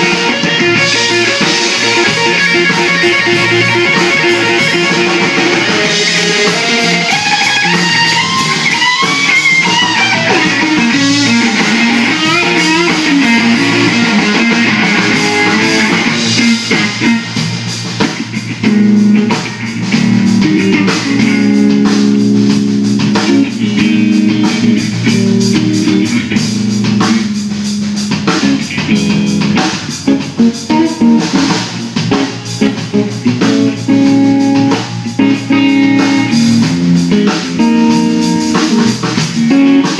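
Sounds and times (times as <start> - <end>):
bass guitar: 0.0 - 39.9
drum kit: 0.0 - 39.9
electric guitar solo: 0.0 - 39.9.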